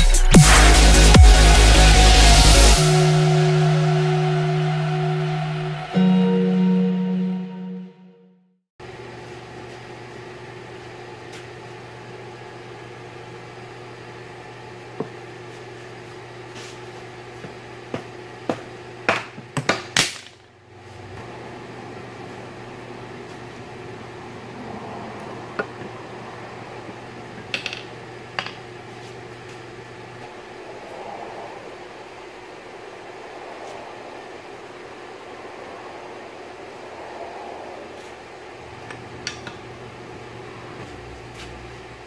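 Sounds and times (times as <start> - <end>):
steady shop hum: 0.0 - 42.0.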